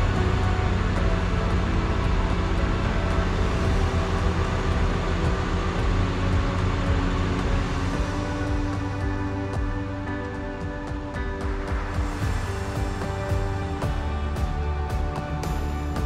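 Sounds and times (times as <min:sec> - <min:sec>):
background music: 0:00.0 - 0:16.0
low mechanical rumble: 0:00.0 - 0:16.0.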